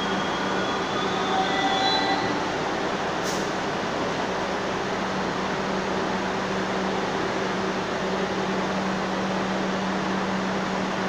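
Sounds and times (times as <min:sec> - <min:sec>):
subway train hum and hiss: 0:00.0 - 0:11.0.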